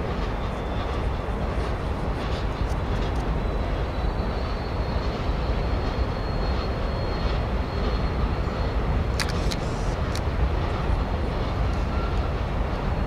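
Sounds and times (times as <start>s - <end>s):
distant freight train rumbling: 0.0s - 13.0s.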